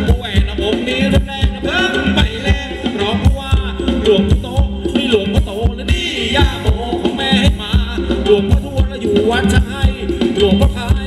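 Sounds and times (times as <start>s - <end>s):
quick steady drum beat: 0.0s - 11.0s.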